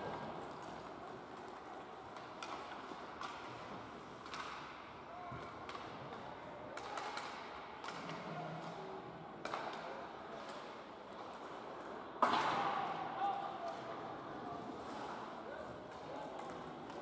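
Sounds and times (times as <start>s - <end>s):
hockey sticks and puck clacking: 0.0s - 17.0s.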